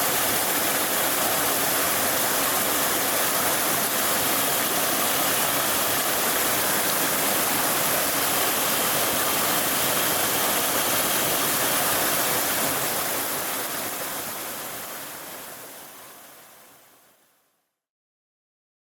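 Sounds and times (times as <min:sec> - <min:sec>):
stream rushing over its bed: 0:00.0 - 0:17.4.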